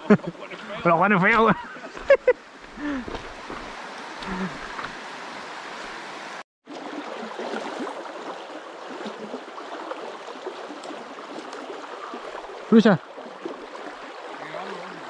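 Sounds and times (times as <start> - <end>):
river water over stones: 0.0 - 15.0.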